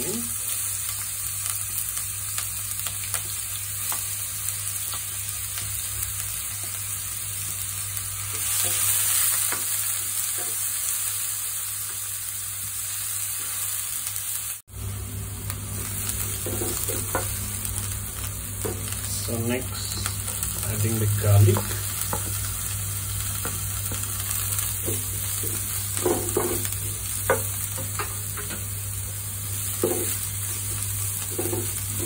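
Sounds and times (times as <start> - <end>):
onion sizzling in hot oil: 0.0 - 32.0.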